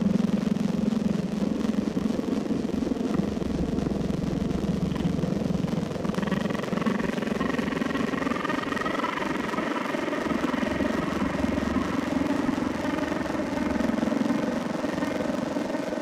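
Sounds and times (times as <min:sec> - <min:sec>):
faint rising whine: 0:00.0 - 0:16.0.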